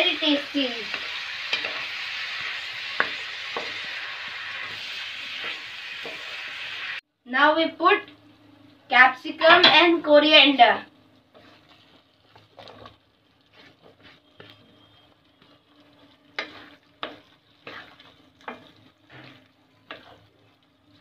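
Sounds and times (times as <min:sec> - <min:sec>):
faint sizzle: 0:00.0 - 0:21.0.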